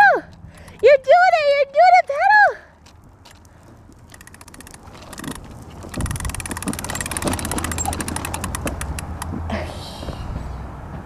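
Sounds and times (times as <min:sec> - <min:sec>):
bike rolling on pavement: 0:00.0 - 0:09.5
bike wheels clicking: 0:00.3 - 0:09.4.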